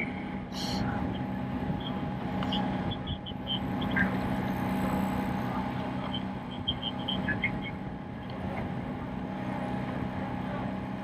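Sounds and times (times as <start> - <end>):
boat engine hum: 0.0 - 11.0
wind: 0.0 - 11.0.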